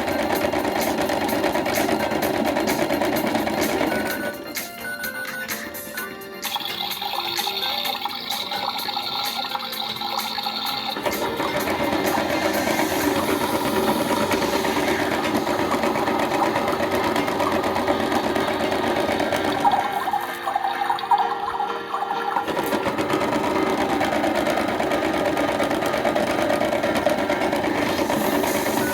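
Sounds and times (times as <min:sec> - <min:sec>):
toy washing machine whirring: 0:00.0 - 0:28.9.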